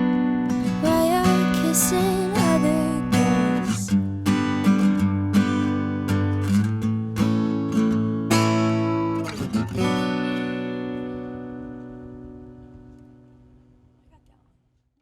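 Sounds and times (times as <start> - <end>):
acoustic guitar strumming: 0.0 - 13.9.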